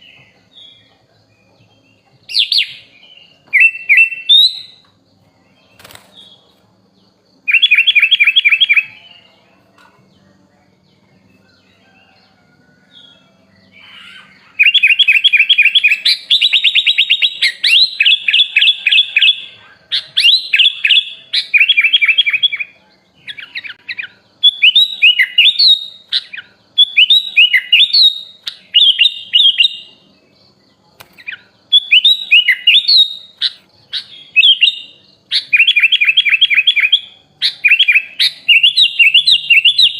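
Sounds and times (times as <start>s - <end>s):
bulbul singing chattering trills: 0.0s - 39.9s.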